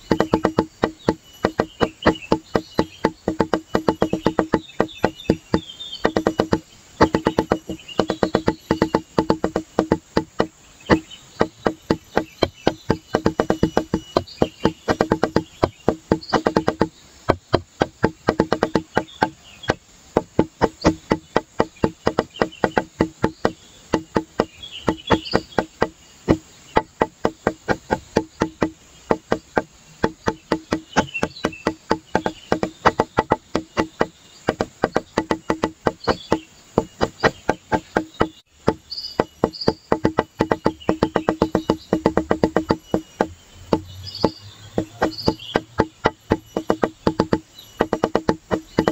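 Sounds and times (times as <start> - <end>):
wood block clicking beat: 0.0 - 48.9.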